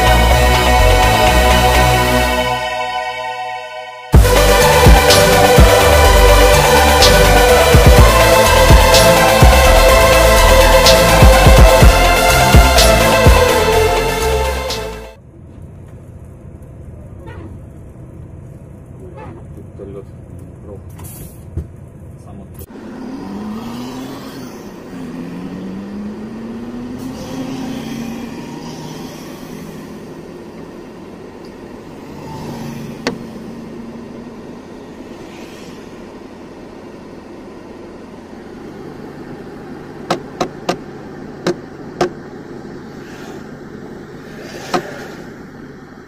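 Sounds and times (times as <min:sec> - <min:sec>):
truck diesel engine accelerating: 0:00.0 - 0:46.0.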